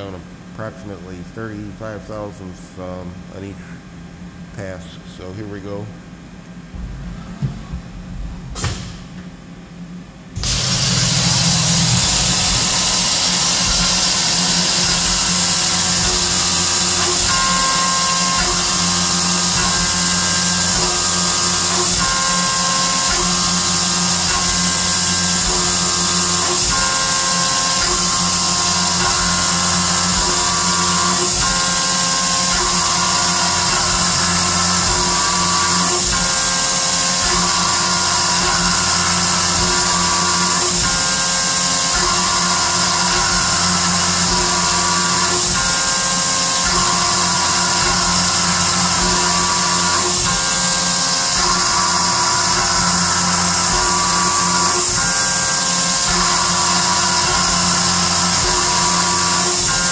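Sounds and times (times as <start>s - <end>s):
mill cutting steel: 10.4s - 59.9s.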